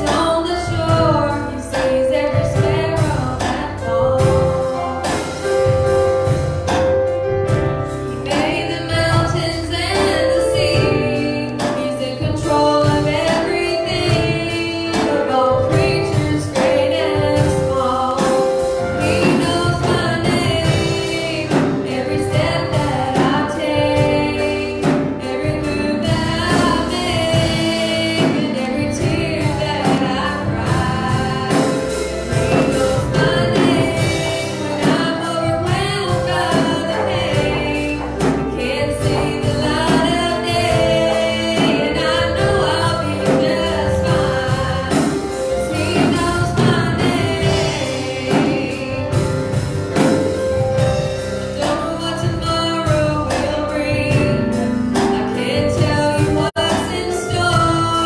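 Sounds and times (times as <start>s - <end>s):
woman singing gospel song: 0.0s - 6.4s, 8.1s - 50.6s, 51.5s - 58.0s
instrumental accompaniment with beat: 0.0s - 58.0s.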